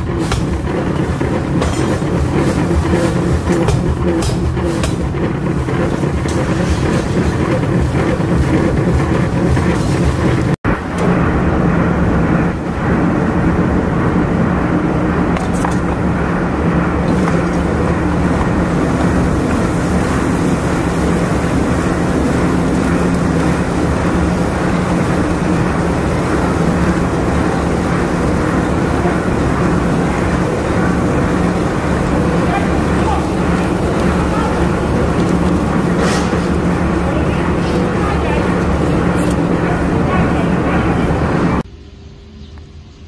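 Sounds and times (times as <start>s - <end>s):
rolling mill mechanical drone: 0.0s - 41.7s.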